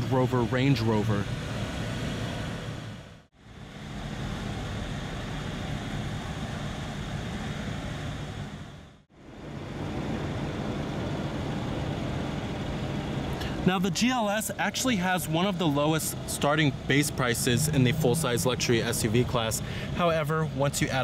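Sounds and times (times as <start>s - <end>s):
outdoor vehicle hum: 0.0s - 21.0s.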